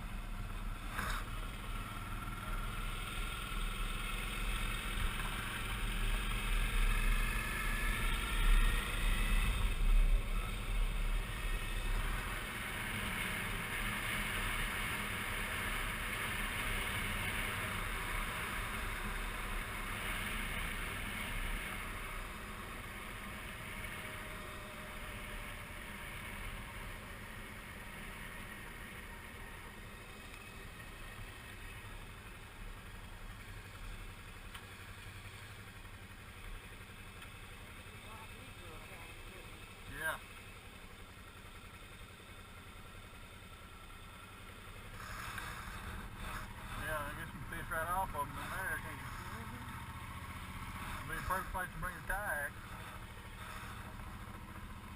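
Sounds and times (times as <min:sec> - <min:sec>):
motorcycle engine: 0:00.0 - 0:54.9
road noise: 0:00.0 - 0:54.9.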